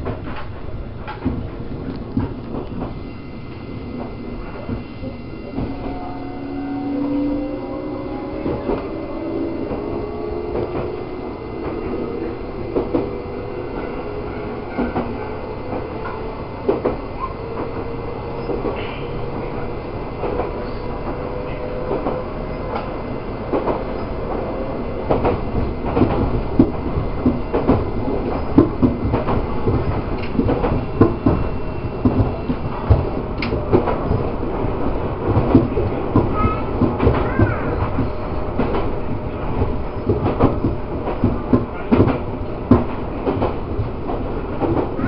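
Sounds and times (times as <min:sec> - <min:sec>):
knocks and clacks over rails: 0:00.0 - 0:03.0, 0:08.3 - 0:18.9, 0:20.2 - 0:45.0
train wheels rumbling: 0:00.0 - 0:45.0.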